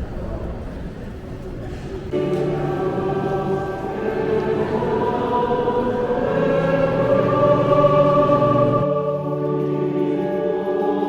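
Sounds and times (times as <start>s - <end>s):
choir singing held chords: 2.1s - 11.0s.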